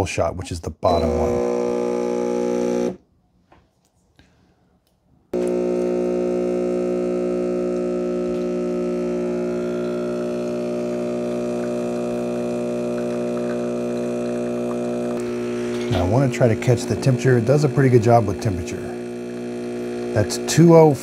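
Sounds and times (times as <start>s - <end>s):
espresso machine pump humming: 1.0s - 3.0s, 5.4s - 21.0s.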